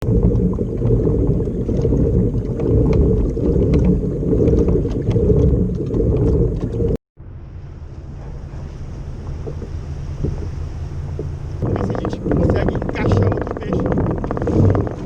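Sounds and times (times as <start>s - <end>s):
wind buffeting microphone: 0.0s - 7.0s, 7.6s - 15.0s
rush of wind and water: 0.0s - 15.0s.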